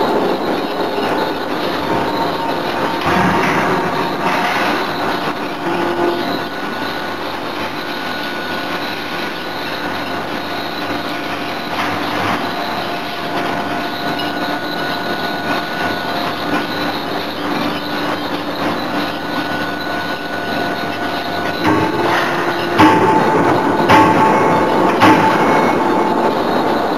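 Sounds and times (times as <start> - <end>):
high machine whine: 0.0 - 26.9
industrial machinery drone: 0.0 - 26.9.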